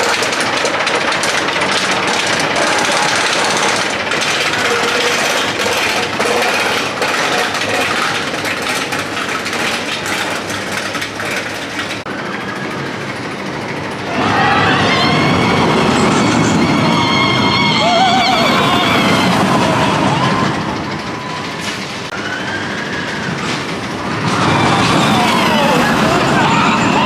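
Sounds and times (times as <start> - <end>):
ride car rattling along track: 0.0 - 27.0.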